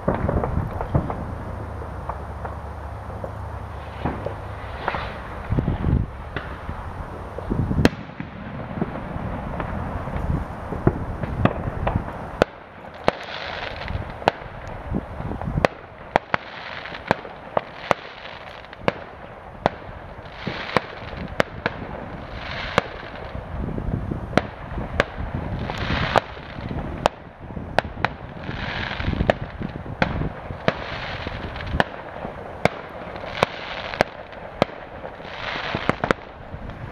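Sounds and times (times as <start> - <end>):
distant explosions rumbling: 0.0 - 36.9
fireworks bangs and pops: 0.0 - 36.9.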